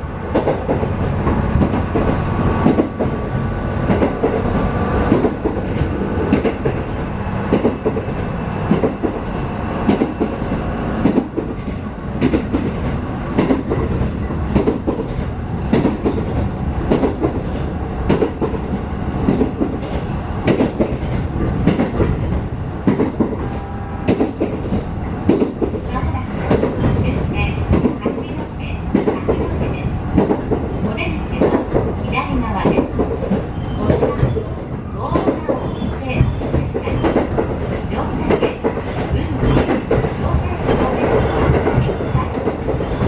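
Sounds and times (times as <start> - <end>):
train interior rumble: 0.0 - 43.0.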